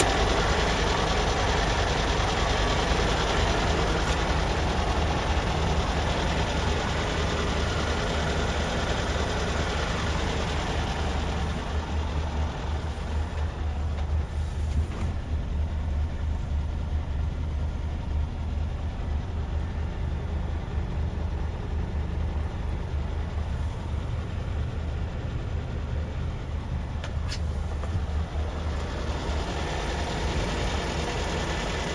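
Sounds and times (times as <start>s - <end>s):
truck diesel engine running: 0.0s - 31.9s.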